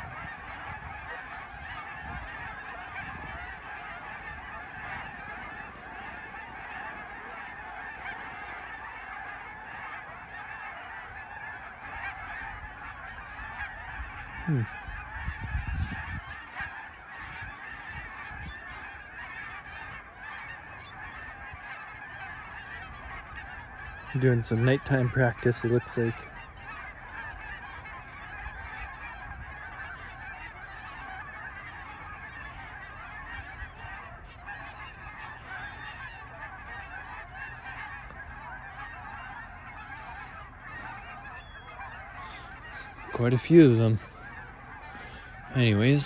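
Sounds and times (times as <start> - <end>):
geese honking: 0.0 - 46.0.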